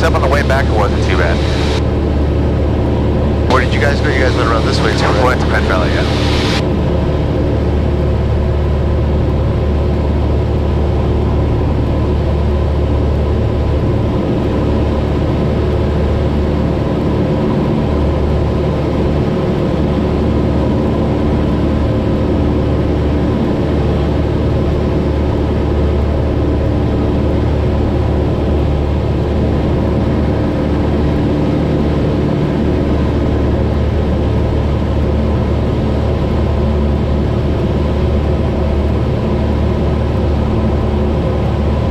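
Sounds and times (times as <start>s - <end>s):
airplane engine and propeller droning: 0.0s - 41.9s.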